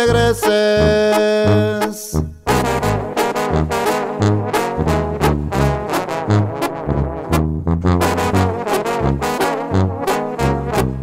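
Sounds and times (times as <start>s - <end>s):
pulsing bass notes: 0.0s - 11.0s
brass band playing: 0.4s - 11.0s.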